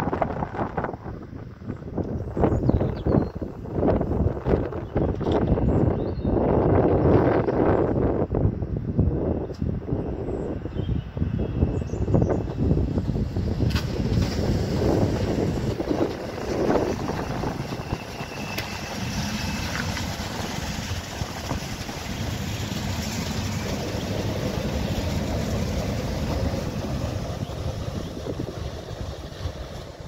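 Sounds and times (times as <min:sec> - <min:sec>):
train rumbling: 0:00.0 - 0:30.0
wind noise on microphone: 0:00.0 - 0:30.0.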